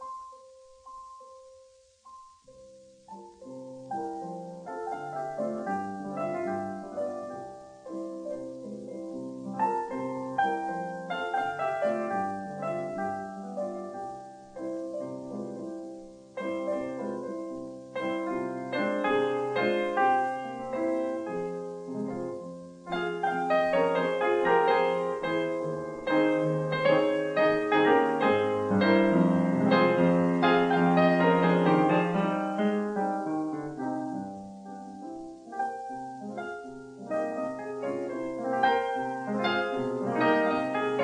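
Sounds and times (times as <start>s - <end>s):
gentle solo piano music: 0.0s - 41.0s.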